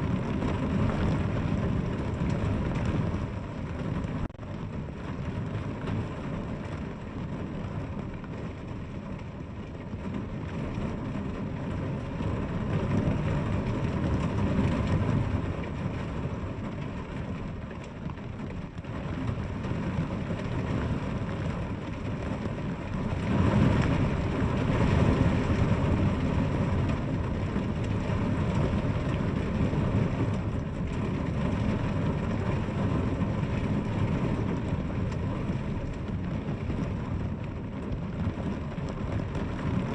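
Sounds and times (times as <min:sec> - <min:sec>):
deep rumble: 0:00.0 - 0:39.9
rain falling: 0:00.0 - 0:39.9.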